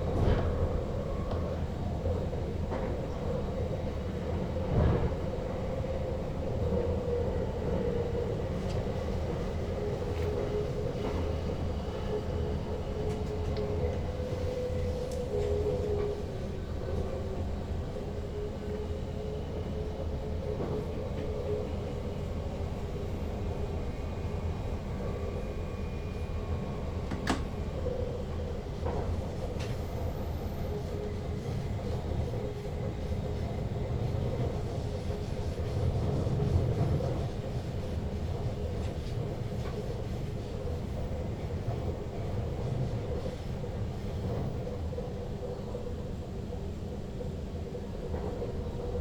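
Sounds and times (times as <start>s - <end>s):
electric train rumble: 0.0s - 49.0s.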